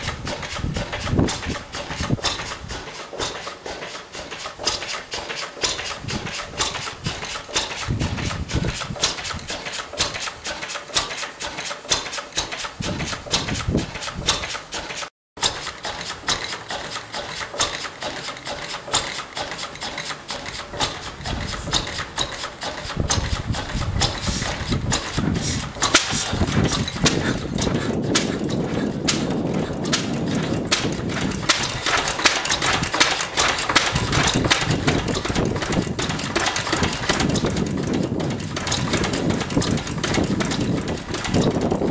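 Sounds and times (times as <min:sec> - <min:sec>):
stationary engine firing beats: 0:00.0 - 0:41.9.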